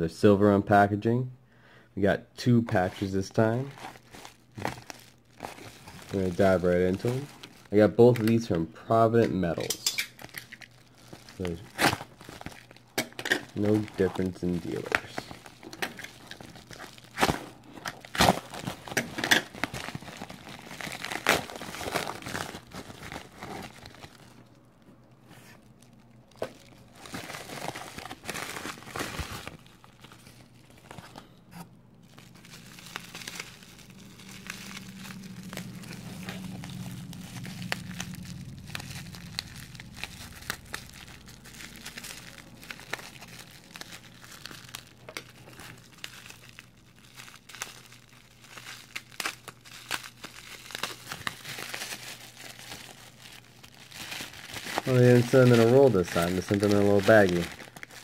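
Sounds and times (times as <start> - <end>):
plastic mailer crinkling and tearing: 2.7 - 31.4, 32.0 - 58.0.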